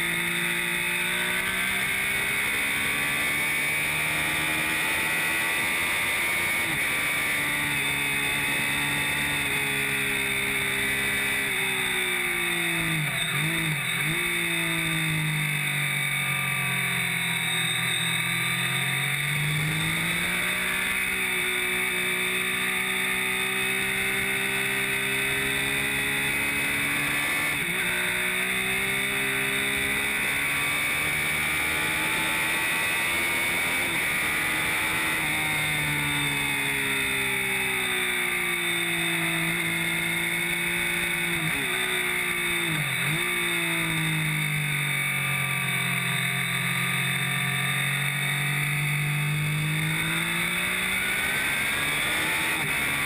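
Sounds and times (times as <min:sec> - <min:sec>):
motorcycle engine: 0:00.0 - 0:53.0.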